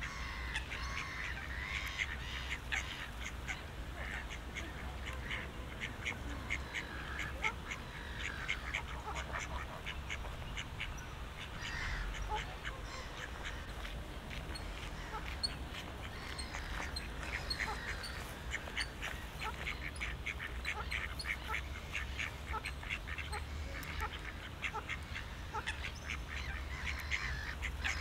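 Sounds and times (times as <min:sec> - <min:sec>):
ducks quacking: 0:00.0 - 0:28.0
small birds chirping: 0:00.1 - 0:28.0.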